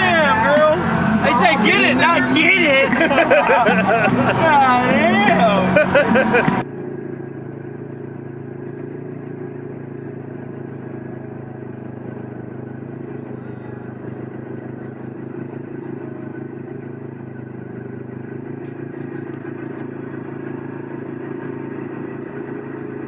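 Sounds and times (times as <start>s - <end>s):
off-road vehicle engine running: 0.0s - 23.0s.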